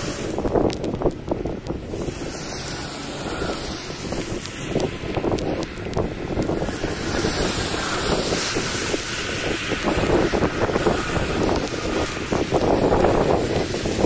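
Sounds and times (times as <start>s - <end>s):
wind blowing across microphone: 0.0s - 14.0s.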